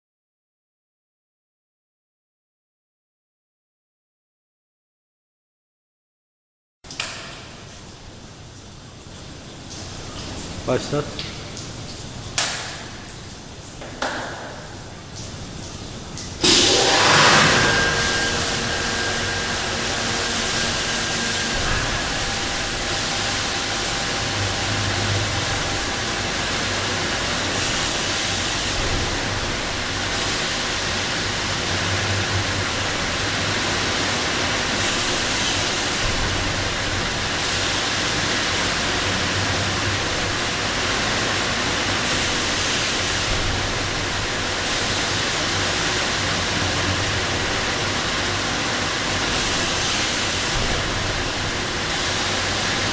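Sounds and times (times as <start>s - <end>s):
washing machine low hum: 6.9s - 52.9s
nozzles spraying water: 9.7s - 52.9s.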